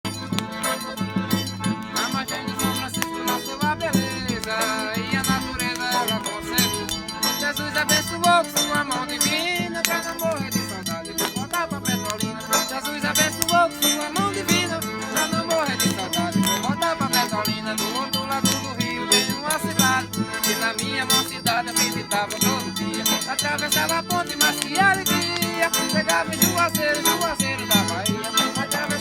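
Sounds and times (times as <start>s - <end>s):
accordion melody: 0.0s - 29.0s
triangle ticking: 0.1s - 29.0s.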